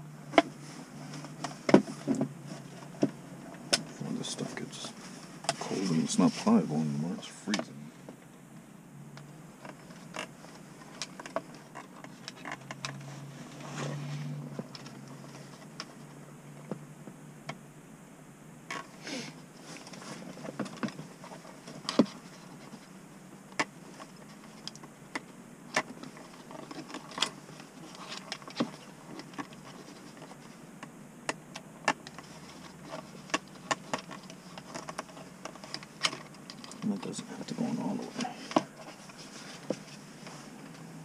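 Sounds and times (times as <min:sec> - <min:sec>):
faint steady low hum: 0:00.0 - 0:41.0
hands handling wiring and plastic: 0:00.3 - 0:08.3, 0:09.2 - 0:16.8, 0:18.7 - 0:41.0.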